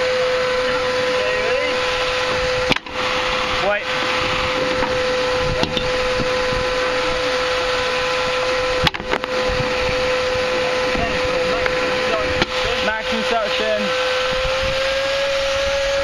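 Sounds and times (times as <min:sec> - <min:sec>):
vacuum cleaner whining: 0:00.0 - 0:16.0.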